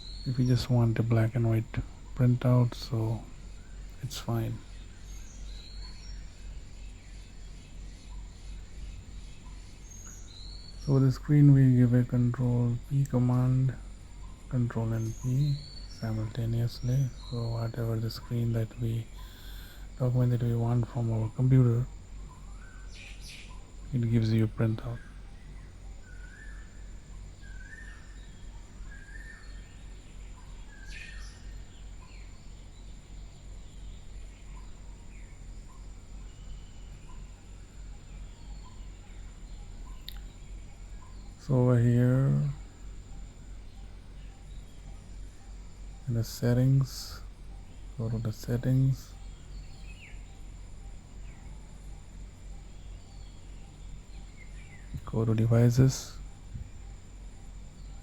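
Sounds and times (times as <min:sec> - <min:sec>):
faint bird chirps: 0:00.0 - 0:58.0
steady low hum: 0:00.0 - 0:58.0.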